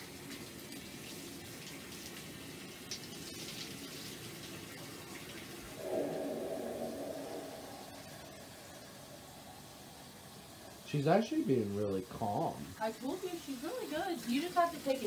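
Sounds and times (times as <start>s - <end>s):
water poured and splashing: 0.0s - 12.5s
gush of water: 0.0s - 15.0s.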